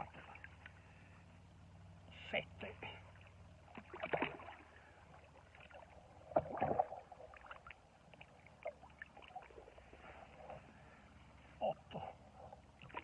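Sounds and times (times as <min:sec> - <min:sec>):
water sloshing and splashing: 0:00.0 - 0:01.3, 0:02.8 - 0:11.5, 0:12.2 - 0:13.0.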